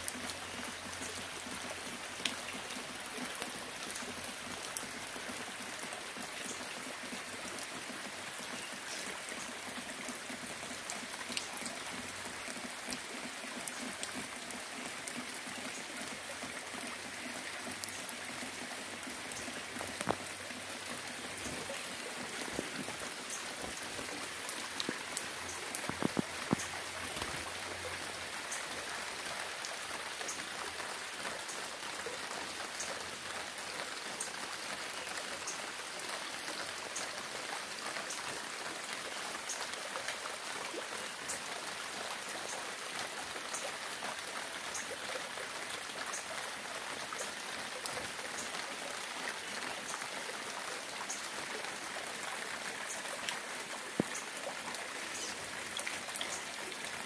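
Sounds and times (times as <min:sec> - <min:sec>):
raindrops ticking: 0:00.0 - 0:48.6, 0:49.7 - 0:57.0
steady rain hiss: 0:00.0 - 0:57.0.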